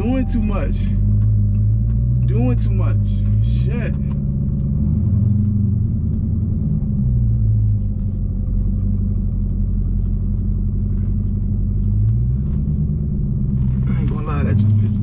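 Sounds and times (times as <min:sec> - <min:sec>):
car engine droning in cabin: 0:00.0 - 0:15.0.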